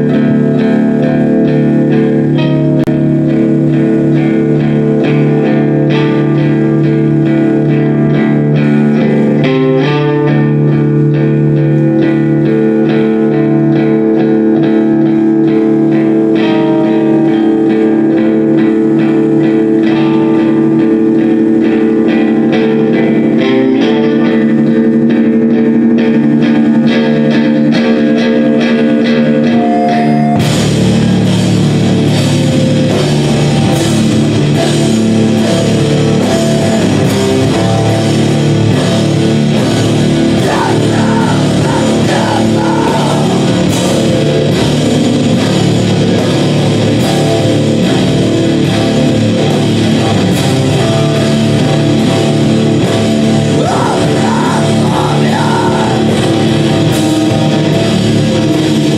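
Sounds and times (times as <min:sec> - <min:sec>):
electric guitar: 0:00.0 - 0:58.9
rock band playing loudly: 0:00.0 - 0:58.9.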